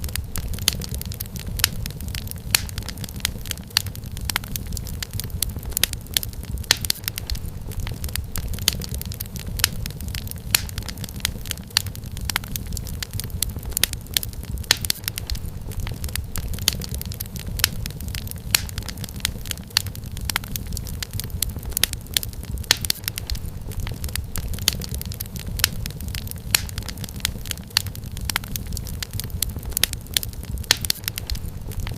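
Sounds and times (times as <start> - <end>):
fire snapping and popping: 0.0 - 31.9
low rumble of flame: 0.0 - 31.9.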